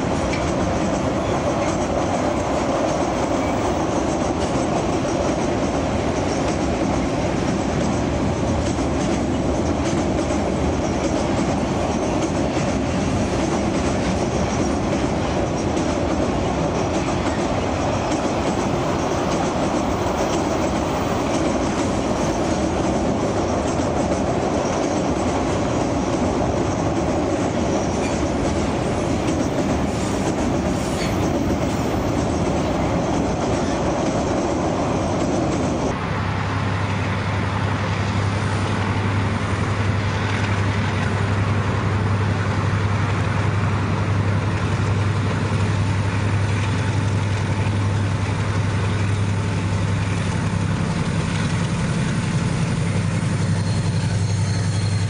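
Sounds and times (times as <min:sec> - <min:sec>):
diesel locomotive humming: 0:00.0 - 0:55.0
train wheels rumbling on rail: 0:00.0 - 0:55.0.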